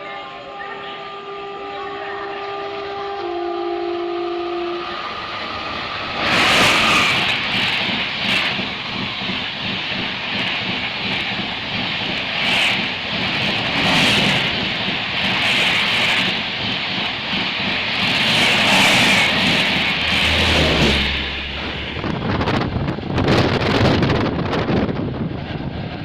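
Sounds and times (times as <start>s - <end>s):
train passing at high speed: 0.0s - 26.0s.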